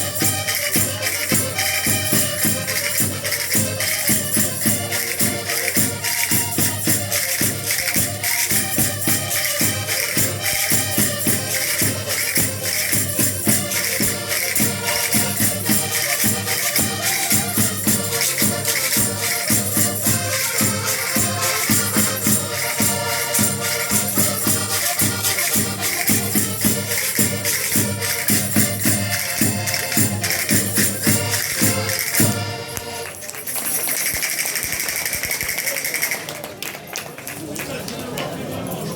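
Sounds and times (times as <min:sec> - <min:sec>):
folk music with group singing: 0:00.0 - 0:33.2
jingling percussion: 0:00.0 - 0:38.9.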